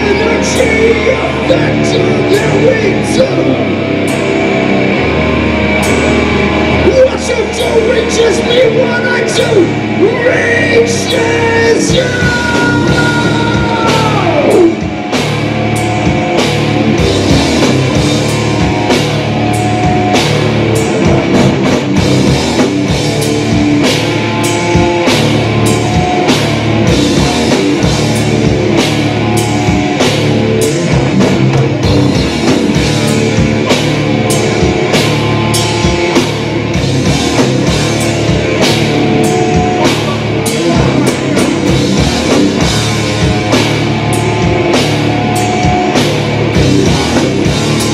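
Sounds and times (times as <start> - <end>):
bass guitar: 0.0 - 47.9
distorted electric guitars: 0.0 - 47.9
hard-hit drumming: 4.0 - 47.9.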